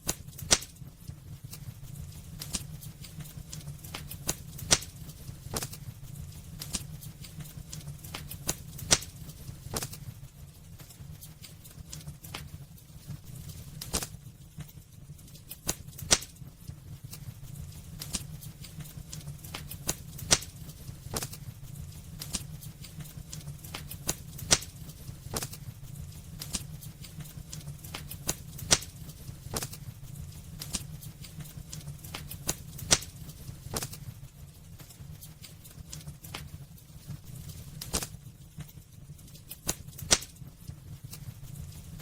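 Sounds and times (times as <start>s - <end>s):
steady low rumble: 0.0s - 42.0s
wood fire crackling: 0.0s - 42.0s.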